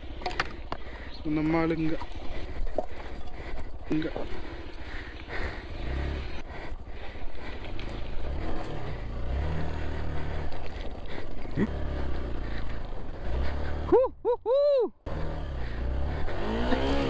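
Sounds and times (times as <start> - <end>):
motorcycle engine revving: 0.0 - 14.0, 15.0 - 17.0.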